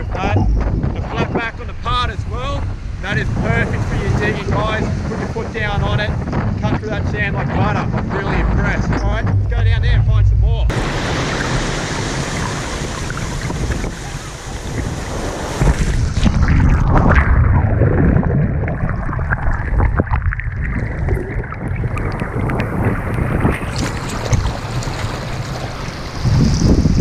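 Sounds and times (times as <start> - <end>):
wind buffeting microphone: 0.0 - 27.0
surf washing over sand: 1.0 - 16.5, 20.9 - 27.0.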